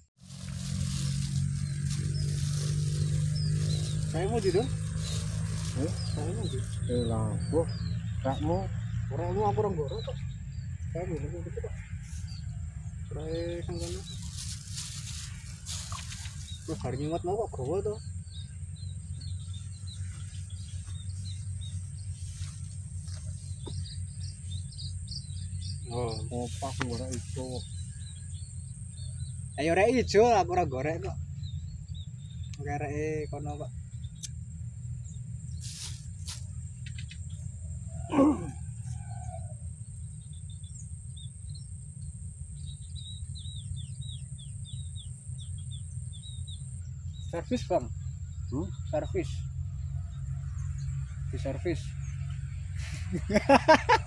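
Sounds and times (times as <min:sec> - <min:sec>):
birds chirping: 0:00.0 - 0:54.0
high-pitched insect trill: 0:00.2 - 0:08.6, 0:09.2 - 0:54.0
low rumble: 0:00.2 - 0:52.8.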